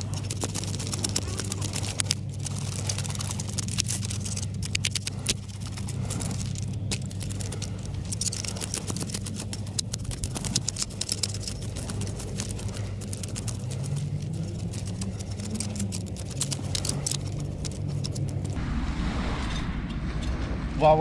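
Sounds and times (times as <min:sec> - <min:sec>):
knife crunching through fish: 0:00.0 - 0:18.6
steady low hum: 0:00.0 - 0:21.0.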